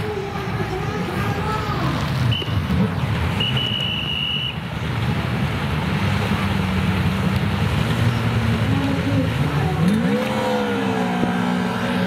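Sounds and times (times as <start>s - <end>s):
jet ski engines idling: 0.0s - 12.0s.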